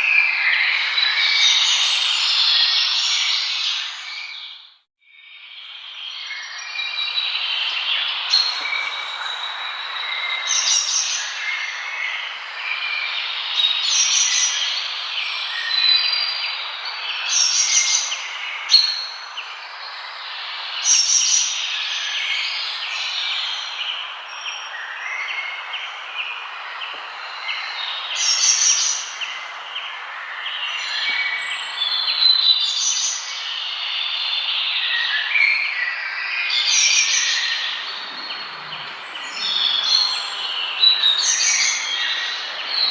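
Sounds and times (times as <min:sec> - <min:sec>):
birds singing and chirping: 0:00.0 - 0:04.6, 0:05.3 - 0:42.9.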